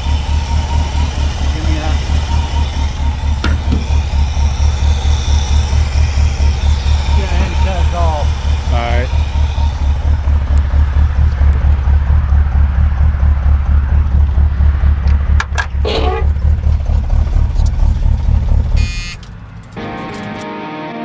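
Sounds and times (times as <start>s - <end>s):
engine idling: 0.0s - 19.8s.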